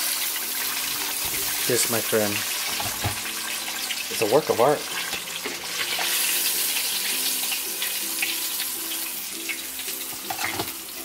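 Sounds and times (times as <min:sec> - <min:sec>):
fried chicken sizzling: 0:00.0 - 0:11.0.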